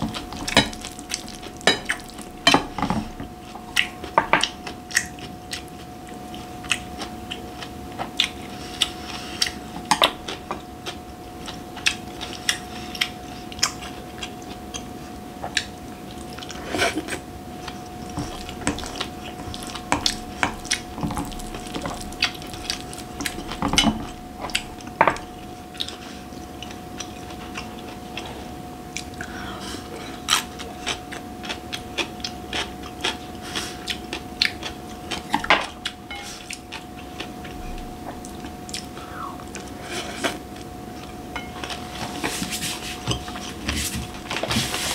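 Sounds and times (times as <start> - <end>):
faint steady hum: 0.0 - 44.9
person chewing food: 0.0 - 44.9.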